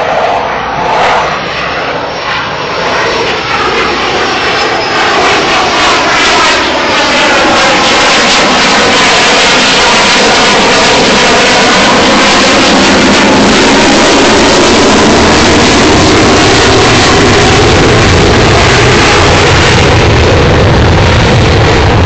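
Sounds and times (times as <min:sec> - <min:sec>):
jet engines roaring flyby: 0:00.0 - 0:22.0.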